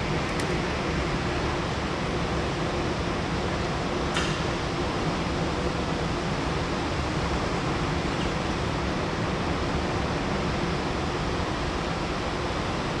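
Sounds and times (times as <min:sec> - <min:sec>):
steady broadband rushing noise: 0:00.0 - 0:13.0.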